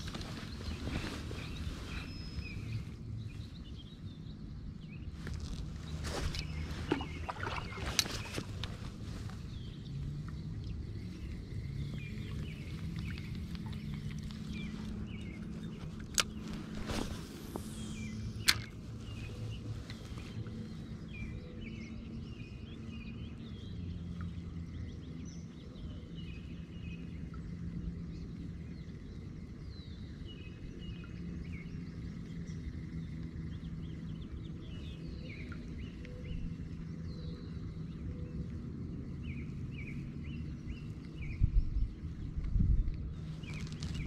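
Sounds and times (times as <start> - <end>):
low steady background hum: 0.0 - 44.0
songbirds chirping: 0.0 - 44.0.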